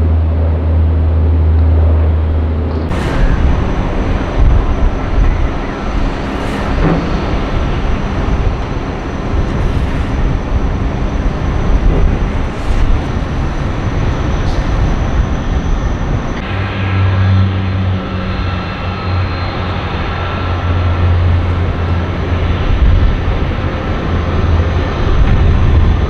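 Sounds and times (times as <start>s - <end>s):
jet engines rumbling: 0.0s - 26.0s
turbine whine: 0.0s - 26.0s.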